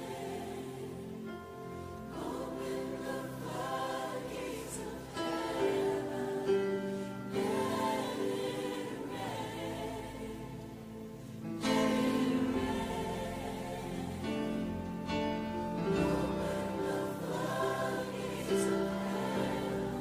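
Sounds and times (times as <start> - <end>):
choir singing long notes: 0.0 - 20.0
piano: 0.0 - 20.0.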